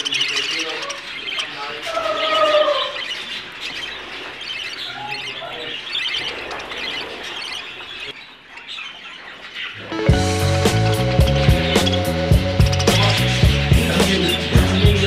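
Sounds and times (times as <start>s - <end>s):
loud falling bird call: 0.0s - 8.2s, 9.6s - 15.0s
budgerigars chattering: 0.0s - 15.0s.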